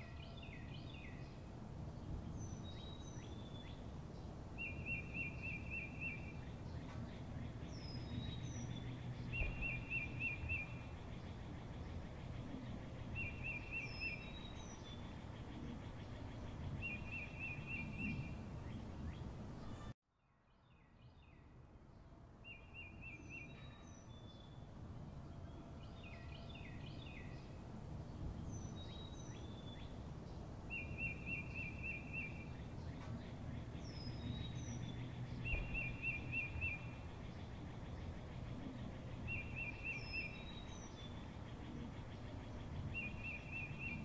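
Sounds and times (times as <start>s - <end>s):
low outdoor rumble: 0.0s - 20.0s, 23.6s - 44.0s.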